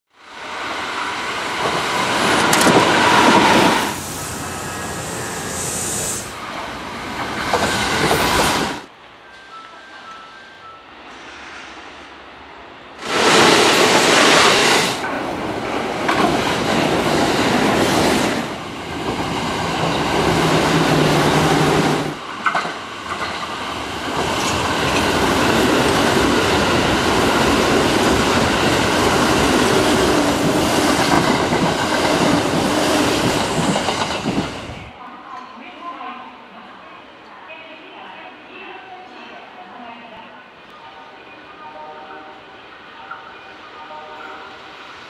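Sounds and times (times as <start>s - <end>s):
trains rushing past on rails: 0.1s - 35.1s, 37.9s - 45.0s.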